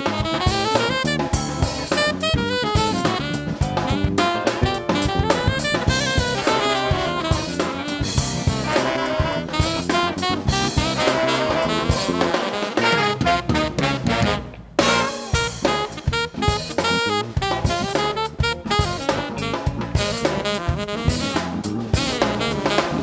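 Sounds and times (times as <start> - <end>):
funk band playing: 0.0 - 23.0
saxophone horn lines: 0.0 - 23.0.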